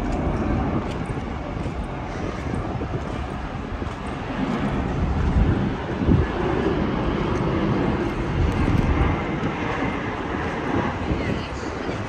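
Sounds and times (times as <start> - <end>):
airplane engine rumble overhead: 0.0 - 12.0.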